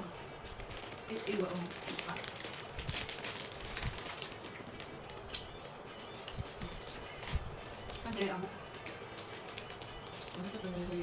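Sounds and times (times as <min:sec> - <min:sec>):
plastic packets crinkling: 0:00.6 - 0:05.5, 0:06.4 - 0:11.0.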